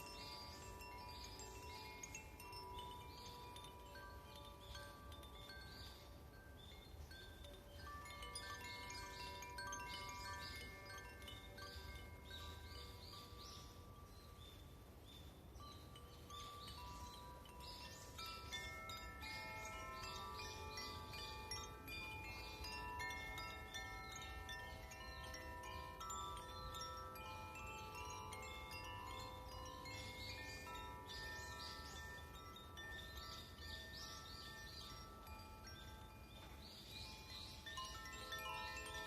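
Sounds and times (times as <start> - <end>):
chimes ringing: 0.0 - 39.0.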